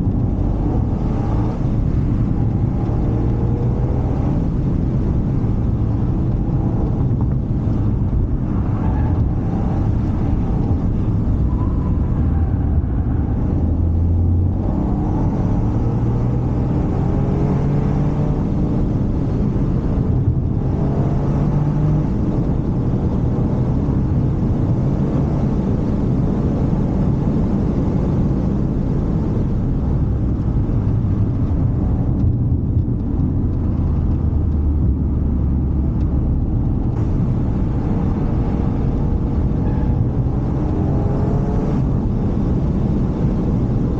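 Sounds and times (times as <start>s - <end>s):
car engine revving: 0.0s - 43.9s
road and tyre rumble: 0.0s - 43.9s.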